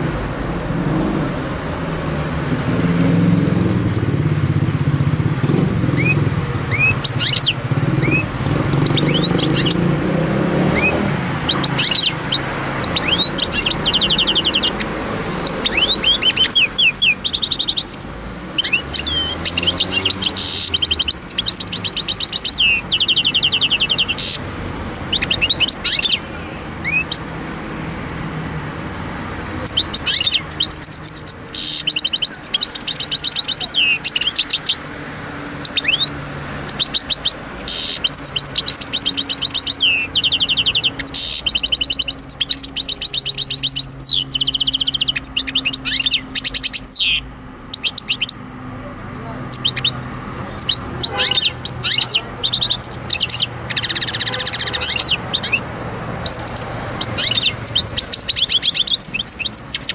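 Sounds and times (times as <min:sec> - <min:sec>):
finch singing fast trills: 0:05.4 - 0:27.4, 0:29.5 - 0:34.9, 0:35.5 - 0:48.5, 0:49.4 - 0:59.9.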